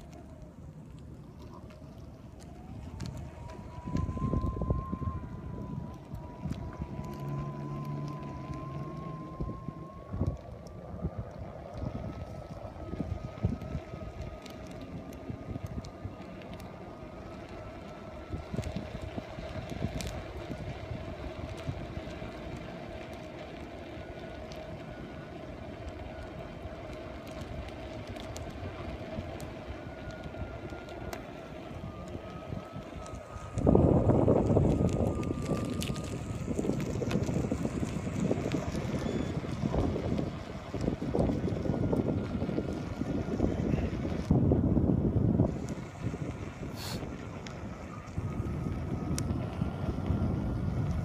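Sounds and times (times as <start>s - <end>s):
tyre rumble on asphalt: 0.0s - 51.0s
wind buffeting microphone: 0.0s - 51.0s
electric motor whine: 1.3s - 51.0s.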